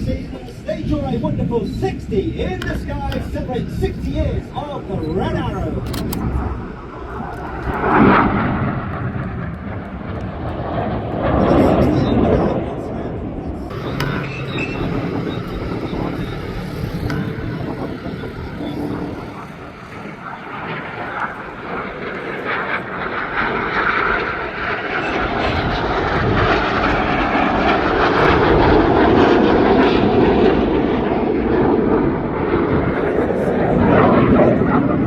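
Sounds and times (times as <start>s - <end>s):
jet roar overhead: 0.0s - 35.0s.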